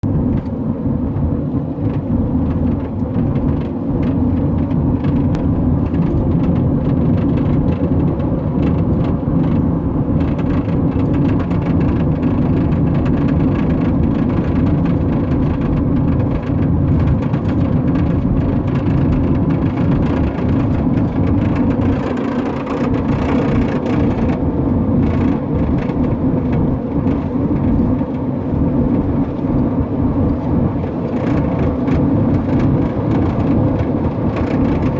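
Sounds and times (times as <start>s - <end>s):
road and drivetrain noise: 0.0s - 34.9s.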